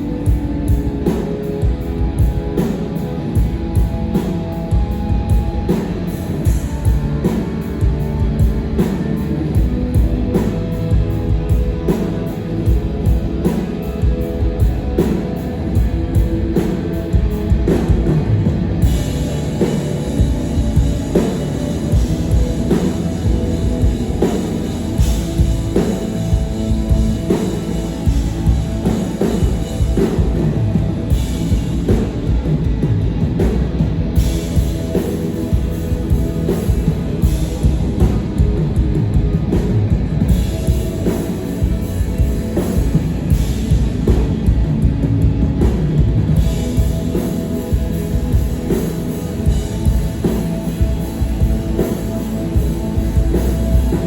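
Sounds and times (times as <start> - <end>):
drum kit beat: 0.0 - 54.0
live rock band playing: 0.0 - 54.0.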